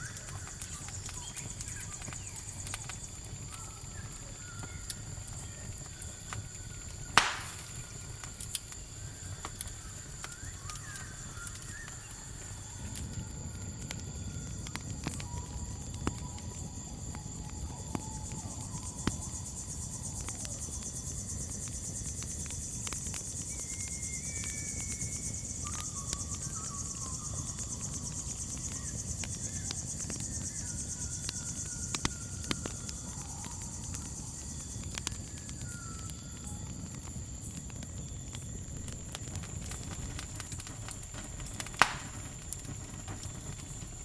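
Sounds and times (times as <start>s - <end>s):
faint whistled notes: 0.0s - 21.6s, 23.3s - 37.5s, 38.8s - 44.0s
campfire crackling: 0.0s - 44.0s
crickets chirring: 0.0s - 44.0s.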